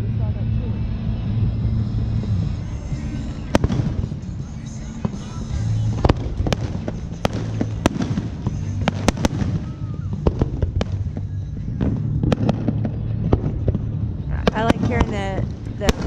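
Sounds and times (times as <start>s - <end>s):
low hum: 0.0s - 16.0s
fireworks bangs and pops: 3.0s - 16.0s.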